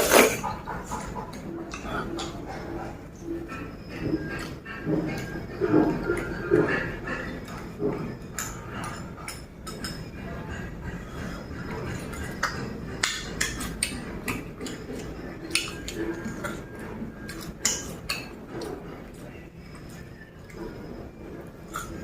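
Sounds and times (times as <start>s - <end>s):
low eating sounds: 0.0s - 22.0s
utensils clinking against bowl: 0.0s - 22.0s.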